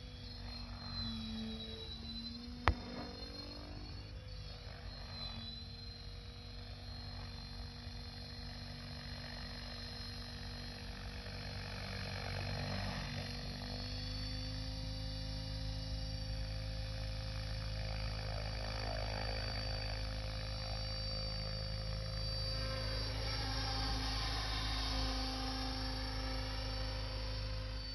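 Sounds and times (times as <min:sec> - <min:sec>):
model helicopter whine: 0:00.0 - 0:27.9.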